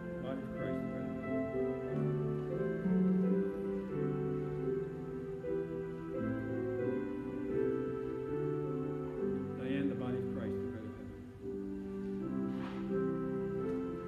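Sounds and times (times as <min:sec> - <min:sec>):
soft keyboard chords: 0:00.0 - 0:14.0.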